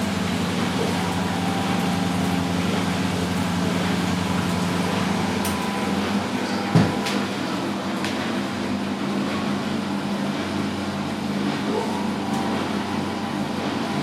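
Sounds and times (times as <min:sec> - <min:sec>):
washing machines spinning: 0:00.0 - 0:14.0.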